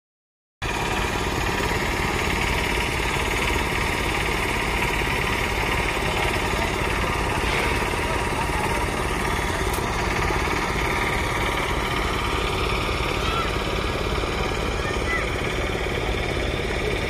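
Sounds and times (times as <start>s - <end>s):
small engines running: 0.6s - 17.0s.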